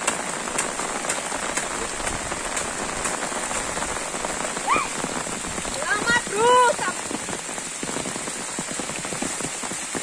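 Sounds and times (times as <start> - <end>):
rain falling on foliage: 0.0 - 10.0
splashing footsteps: 0.0 - 10.0.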